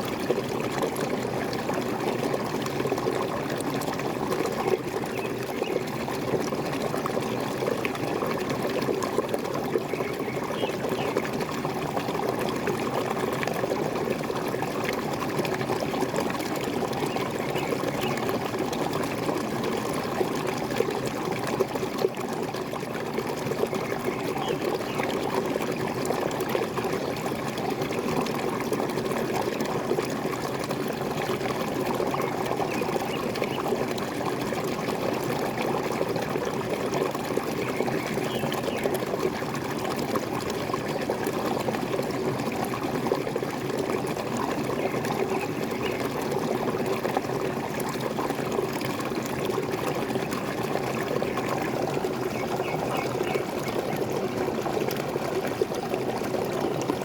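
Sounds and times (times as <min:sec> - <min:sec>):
waterfall pouring and gurgling: 0:00.0 - 0:57.0.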